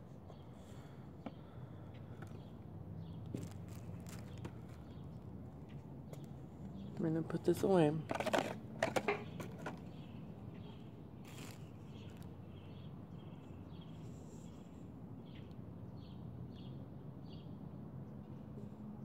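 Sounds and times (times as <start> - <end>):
small birds chirping: 0.2 - 8.1, 9.2 - 17.6.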